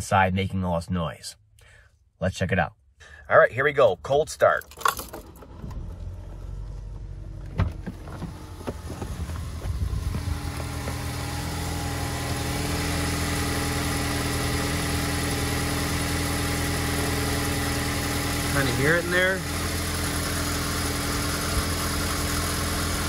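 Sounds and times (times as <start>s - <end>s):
car engine idling: 3.0s - 23.0s.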